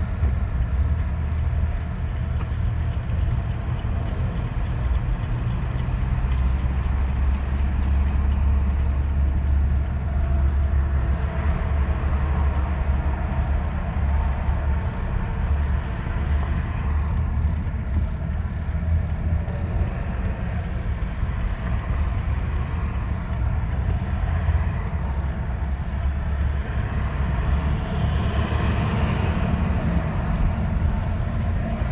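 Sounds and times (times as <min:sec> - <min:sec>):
low vehicle rumble: 0:00.0 - 0:31.9.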